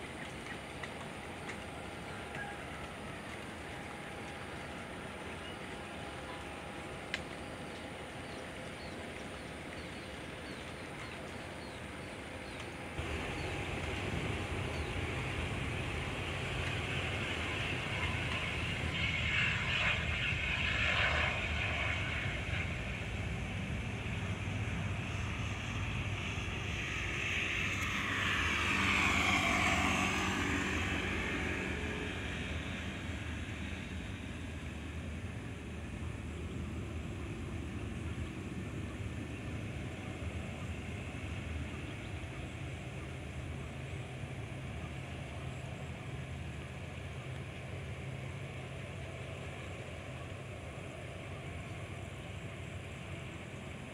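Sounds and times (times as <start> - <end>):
jet engines passing by: 0.0 - 53.9
outdoor background noise: 0.0 - 53.9.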